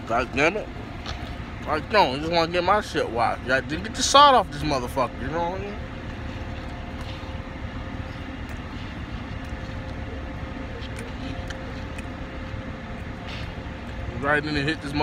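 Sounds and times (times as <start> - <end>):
car engine idling: 0.0 - 15.0
faint steady hum: 0.0 - 15.0.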